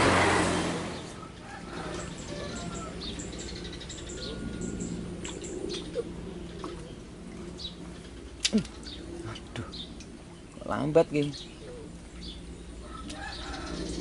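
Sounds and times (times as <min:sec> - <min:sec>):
steady low hum: 0:00.0 - 0:14.0
small birds chirping: 0:00.9 - 0:14.0.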